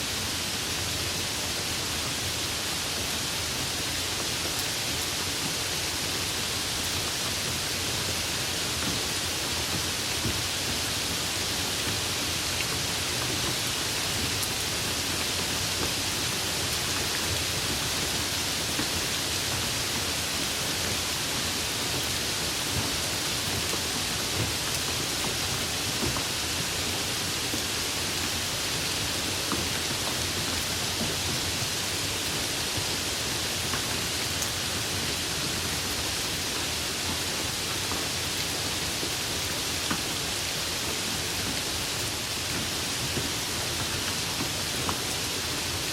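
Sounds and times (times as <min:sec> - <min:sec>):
light rain falling: 0:00.1 - 0:45.9.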